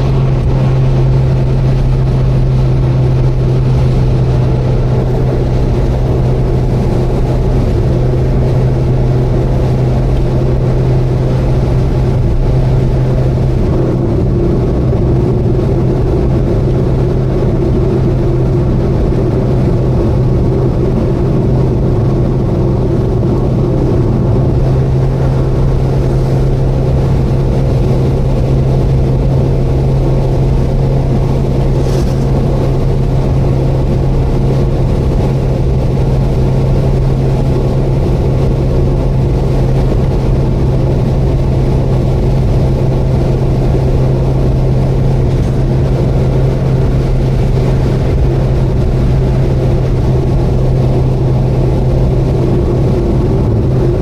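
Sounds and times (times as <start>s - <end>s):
car engine drone: 0.0s - 54.0s
road noise: 0.0s - 54.0s.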